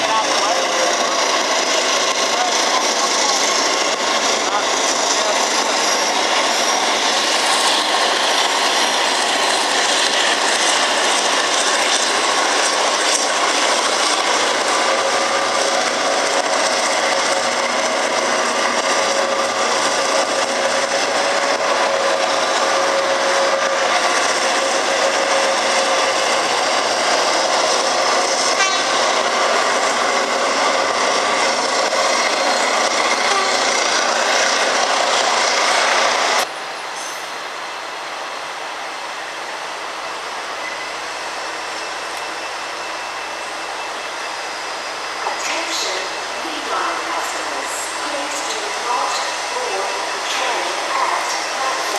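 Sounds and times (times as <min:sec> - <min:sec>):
train engine and wheels on rail: 0:00.0 - 0:51.9.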